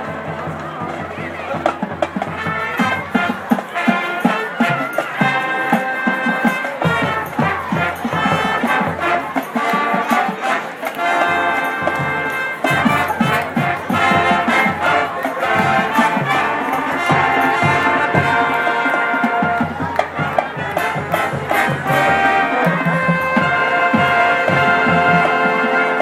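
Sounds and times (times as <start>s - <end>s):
brass holding loud chords: 0.0s - 26.0s
drumline drum hits: 0.0s - 26.0s.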